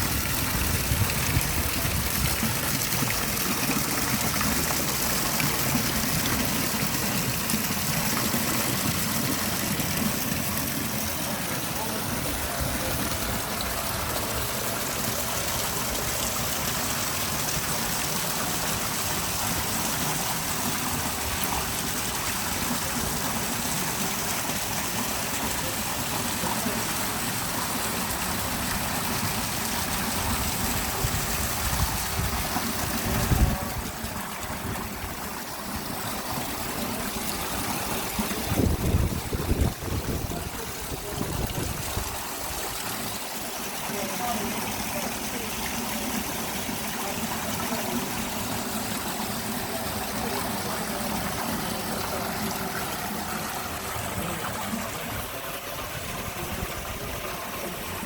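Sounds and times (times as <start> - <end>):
water pouring down waterfall: 0.0 - 58.0.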